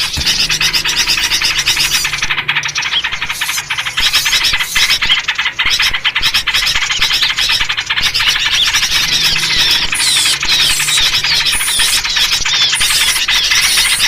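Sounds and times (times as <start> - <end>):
flock of songbirds chattering: 0.0 - 14.0.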